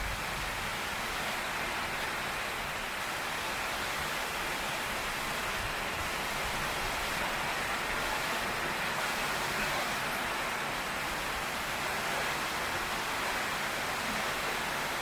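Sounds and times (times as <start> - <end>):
heavy rain on a tin roof: 0.0 - 15.0.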